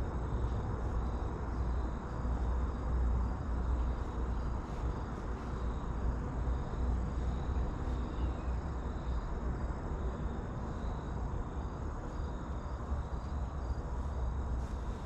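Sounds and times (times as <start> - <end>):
faint insects chirping: 0.0 - 15.0.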